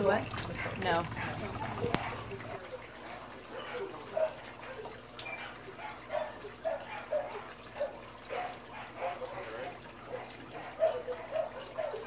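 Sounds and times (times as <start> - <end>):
water pouring through funnel: 0.0 - 12.0.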